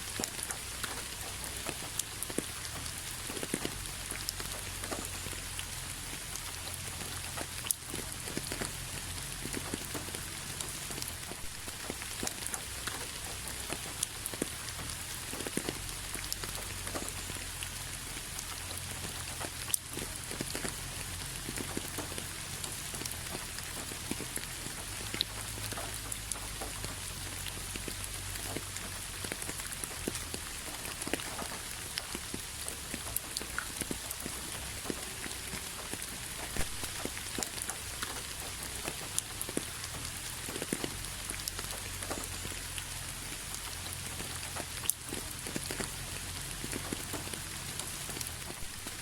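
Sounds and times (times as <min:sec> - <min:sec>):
rain on a hard surface: 0:00.0 - 0:49.0.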